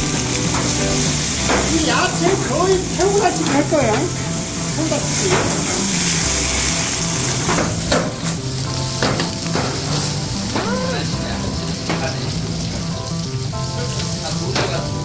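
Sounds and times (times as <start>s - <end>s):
stir-fry sizzling in woks: 0.0s - 15.0s
wok and utensils clanking: 0.0s - 15.0s.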